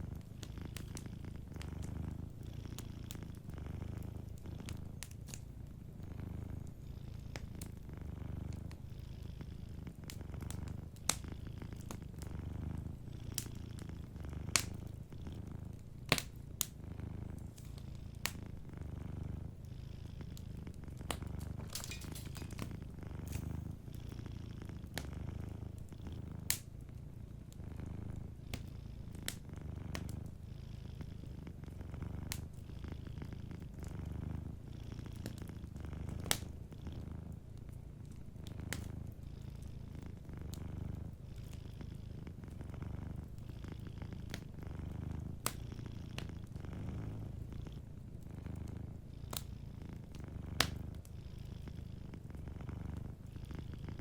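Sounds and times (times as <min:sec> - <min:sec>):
wood fire popping and crackling: 0:00.0 - 0:08.8, 0:09.7 - 0:19.6, 0:20.3 - 0:30.4, 0:31.1 - 0:51.1
cat purring: 0:00.0 - 0:54.0.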